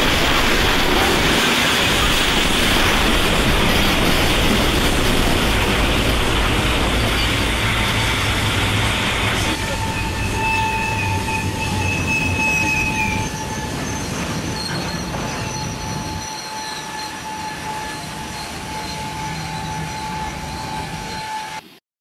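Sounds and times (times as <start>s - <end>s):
freight cars rolling: 0.0s - 21.6s
train wheels squealing: 0.0s - 21.8s.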